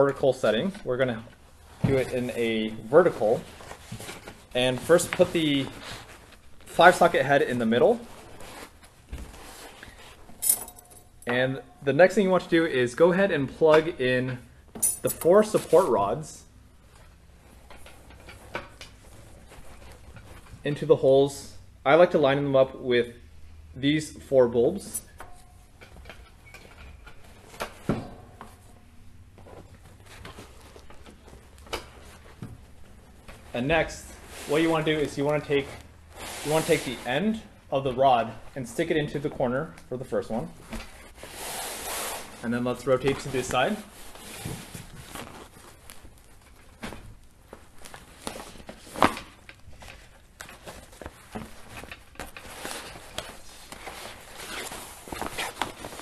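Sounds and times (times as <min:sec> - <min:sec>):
soft fabric handling: 0:00.0 - 0:11.3, 0:12.1 - 0:21.0, 0:24.2 - 0:56.0.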